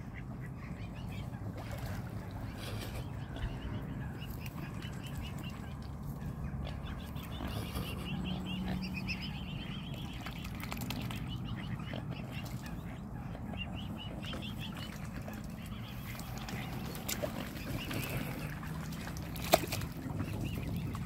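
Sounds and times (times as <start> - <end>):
cygnets peeping: 0.0 - 21.0.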